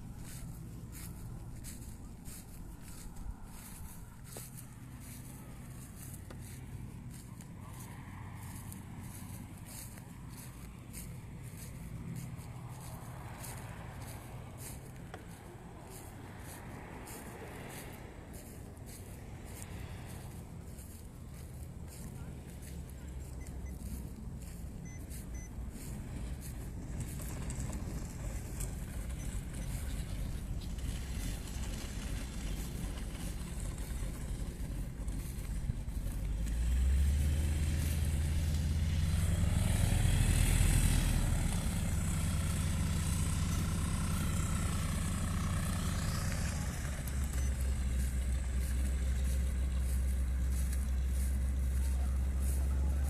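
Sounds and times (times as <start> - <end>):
propeller aircraft engine droning: 0.0 - 53.0.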